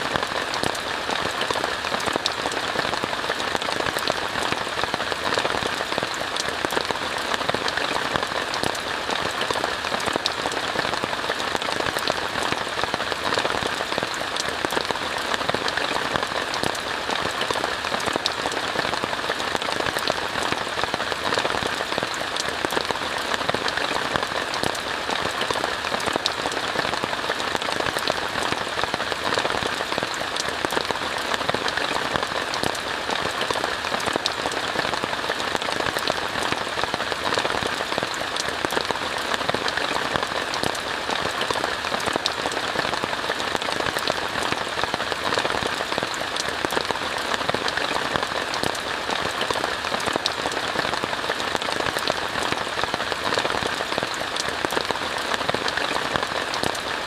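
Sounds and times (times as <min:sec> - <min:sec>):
rain falling on a tent: 0:00.0 - 0:57.0.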